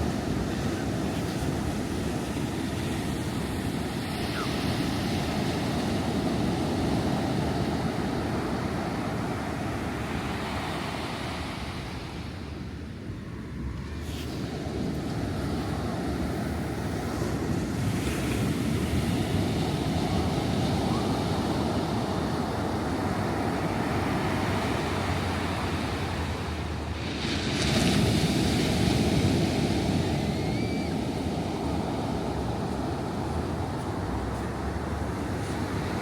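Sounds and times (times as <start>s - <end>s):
waves washing on shore: 0.0s - 36.0s.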